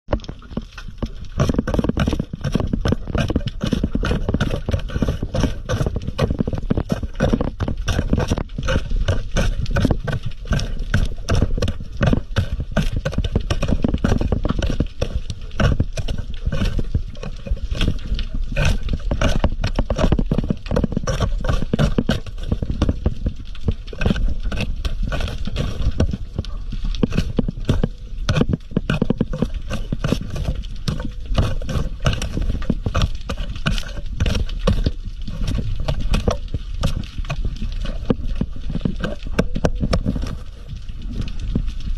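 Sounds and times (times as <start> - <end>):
tool scraping rock: 0.1 - 41.6
underwater clicks and knocks: 0.1 - 41.9.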